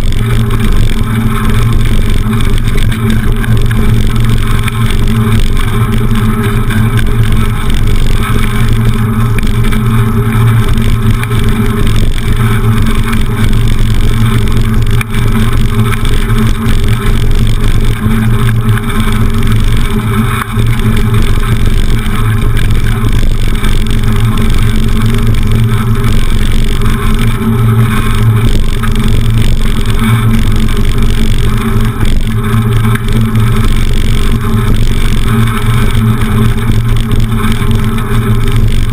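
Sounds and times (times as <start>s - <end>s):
bicycle rumbling over paving: 0.0s - 38.9s.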